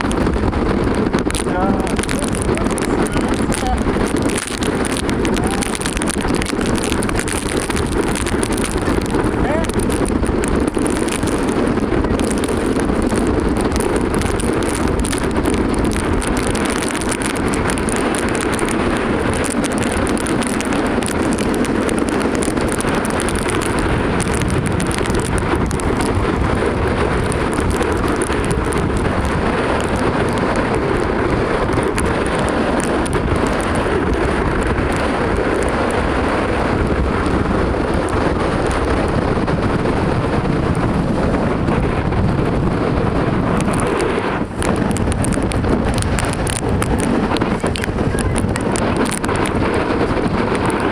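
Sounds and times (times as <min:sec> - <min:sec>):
raindrops ticking: 0:00.0 - 0:50.9
wind buffeting microphone: 0:00.0 - 0:50.9.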